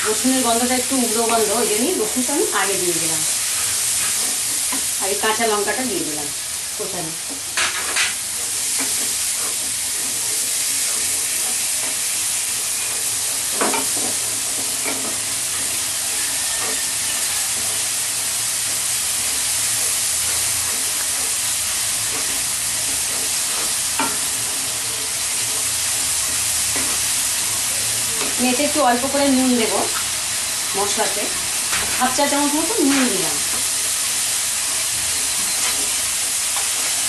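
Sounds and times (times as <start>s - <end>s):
onion paste sizzling in oil: 0.0s - 37.0s.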